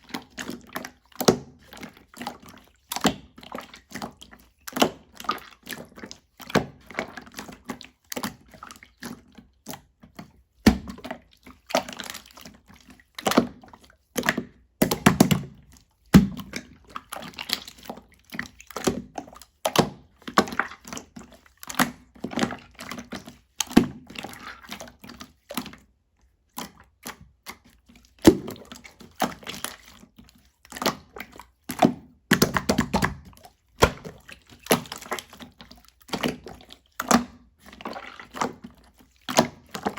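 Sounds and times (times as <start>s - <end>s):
slime squishing: 0.1s - 39.9s.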